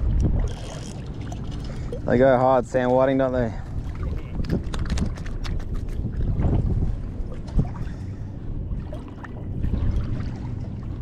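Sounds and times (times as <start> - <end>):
wind buffeting microphone: 0.0 - 11.0
water lapping: 0.2 - 11.0.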